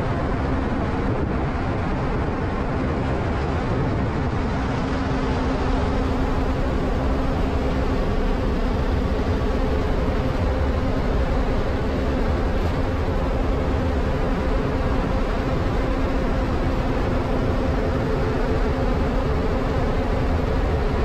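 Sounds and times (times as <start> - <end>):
bus engine running: 0.0 - 21.0
road and wind noise: 0.0 - 21.0.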